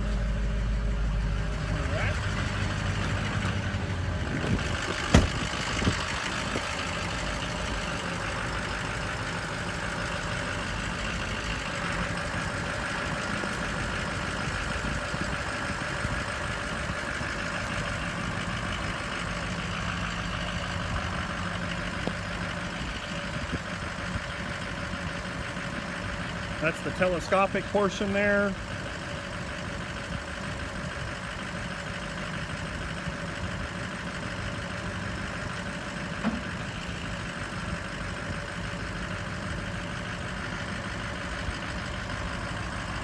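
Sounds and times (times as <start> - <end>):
truck engine idling: 0.0 - 43.0.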